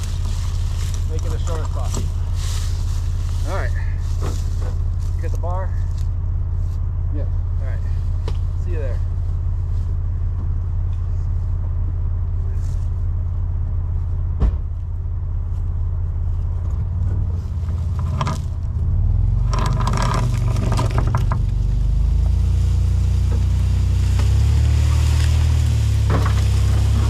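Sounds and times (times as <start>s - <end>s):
rustling in dry leaves: 0.0s - 27.0s
vehicle engine idling: 0.0s - 27.0s.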